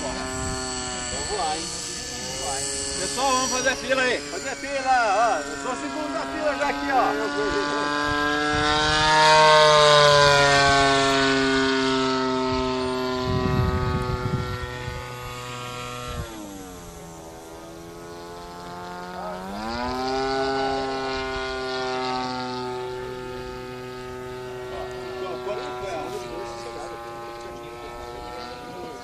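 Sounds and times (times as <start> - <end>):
model airplane engine and propeller: 0.0 - 29.0.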